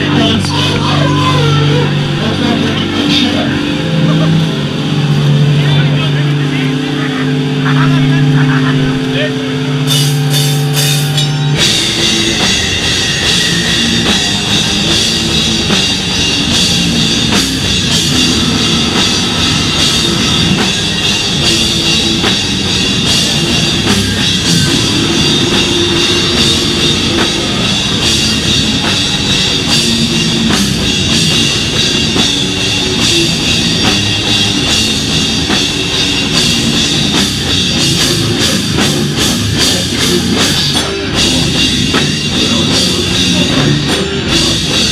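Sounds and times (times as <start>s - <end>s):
held guitar chord ringing: 0.0s - 44.8s
metal band playing: 0.0s - 44.9s.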